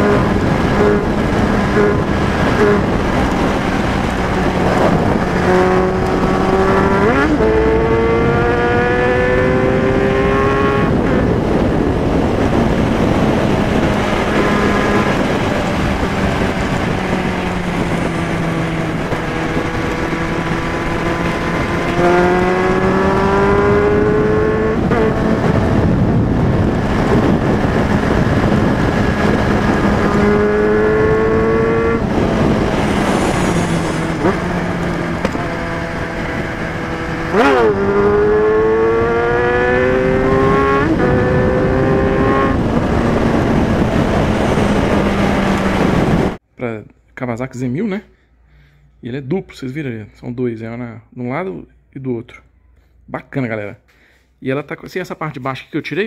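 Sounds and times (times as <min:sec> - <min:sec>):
motorcycle engine revving: 0:00.0 - 0:46.4
road and wind noise: 0:00.0 - 0:56.0.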